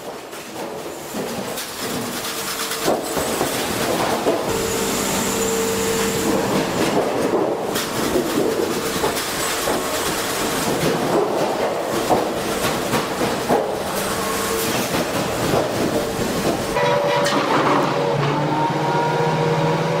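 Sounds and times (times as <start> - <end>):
machinery rattling clatter: 0.0 - 18.5
machine hum with high whine: 2.4 - 20.0.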